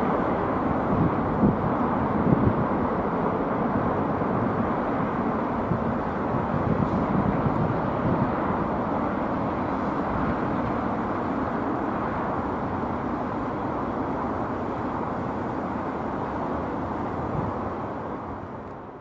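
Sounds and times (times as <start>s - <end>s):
jet airliner rumble: 0.0s - 19.0s.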